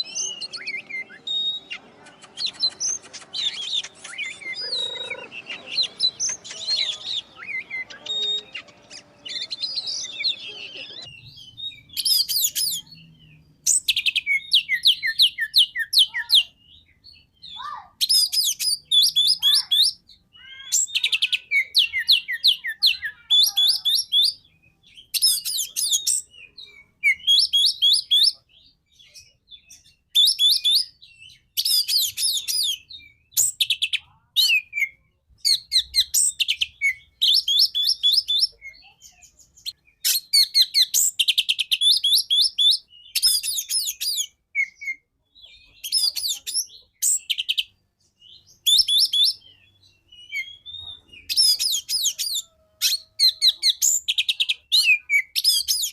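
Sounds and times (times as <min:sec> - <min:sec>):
bird singing whistled notes: 0:00.0 - 0:21.0, 0:21.6 - 0:45.0, 0:45.7 - 0:55.9.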